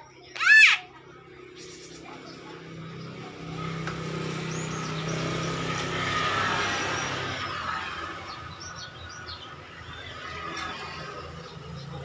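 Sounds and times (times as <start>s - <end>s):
vehicle passing by: 1.1s - 12.0s.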